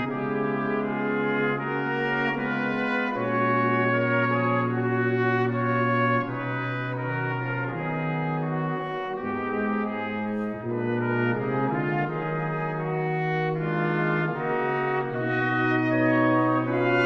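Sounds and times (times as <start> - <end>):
brass ensemble playing chords: 0.0 - 17.0.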